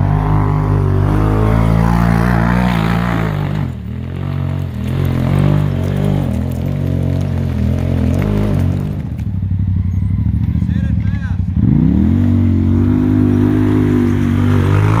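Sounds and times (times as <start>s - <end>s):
buggy engine revving hard: 0.0s - 9.2s, 10.3s - 15.0s.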